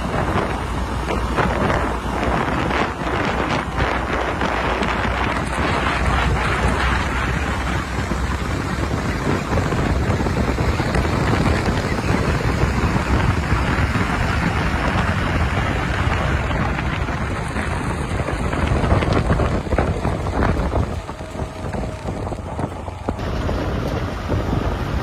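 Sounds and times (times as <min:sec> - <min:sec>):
diesel machinery running: 0:00.0 - 0:25.0
wind rumble on microphone: 0:00.0 - 0:25.0.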